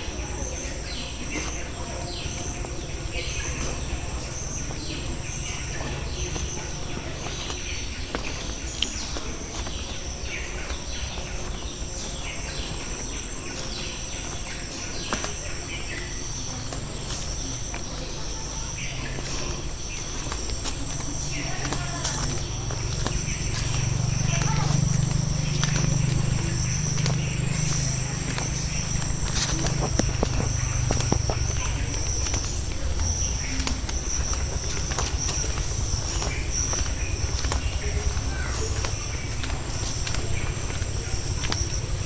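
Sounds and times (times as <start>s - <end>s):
insect chorus: 0.0s - 42.0s
low outdoor rumble: 0.0s - 42.0s.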